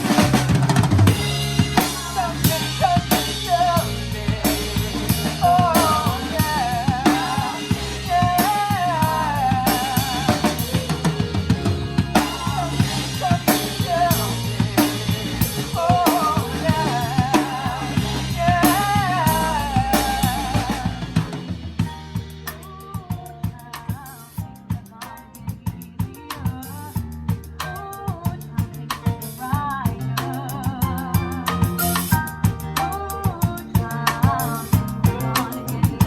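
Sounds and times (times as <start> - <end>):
drum kit groove: 0.0 - 36.0
live band music: 0.0 - 36.0.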